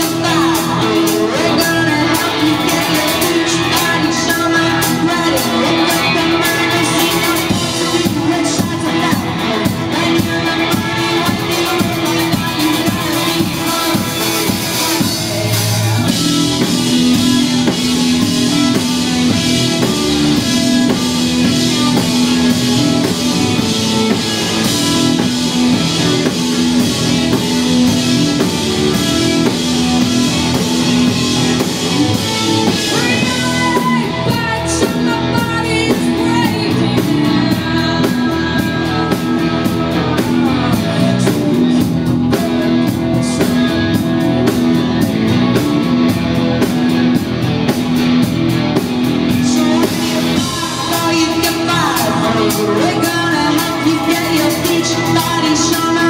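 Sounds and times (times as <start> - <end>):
woman singing: 0.0 - 45.4, 48.8 - 56.0
live rock band: 0.0 - 56.0.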